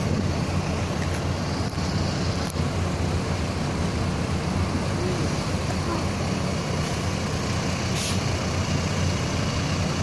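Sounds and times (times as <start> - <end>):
bus engine running: 0.0 - 10.0.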